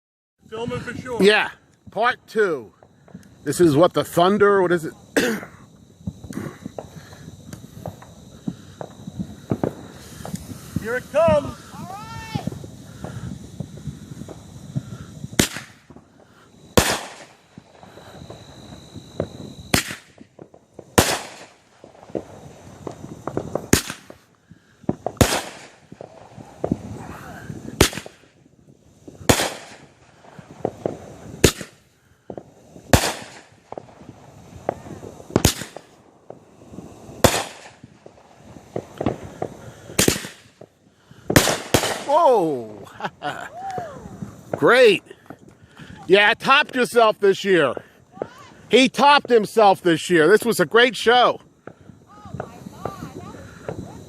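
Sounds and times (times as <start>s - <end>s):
rapid crackling pops: 0.5s - 54.0s
firework shells bursting: 0.7s - 54.0s.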